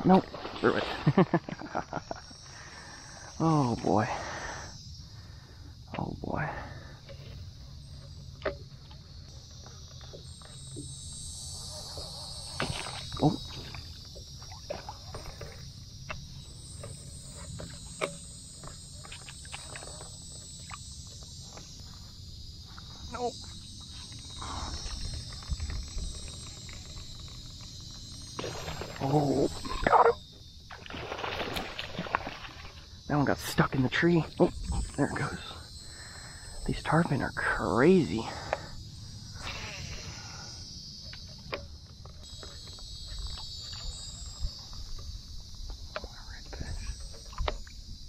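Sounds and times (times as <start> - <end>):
high-pitched insect chorus: 0.0 - 48.0.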